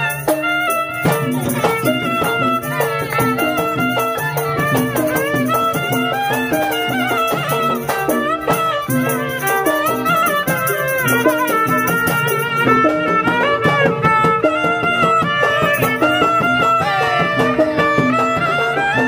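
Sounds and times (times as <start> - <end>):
bowed fiddle melody: 0.0 - 19.0
jingling percussion: 0.0 - 19.0.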